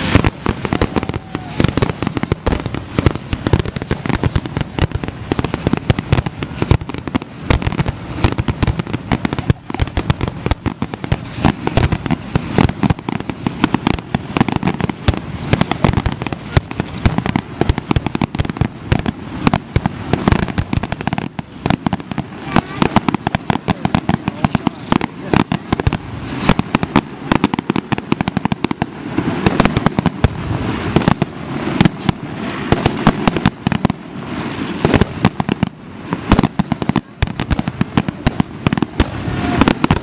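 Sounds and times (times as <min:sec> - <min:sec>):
fireworks bangs and pops: 0:00.0 - 0:40.0.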